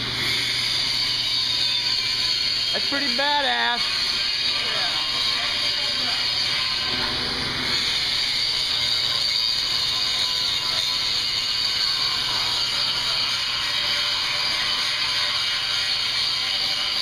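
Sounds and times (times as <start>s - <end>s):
electric hoist whirring: 0.0s - 17.0s.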